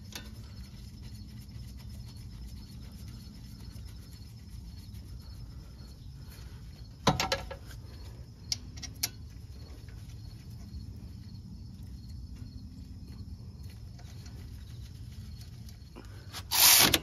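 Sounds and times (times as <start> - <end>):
low background hum: 0.0 - 16.8.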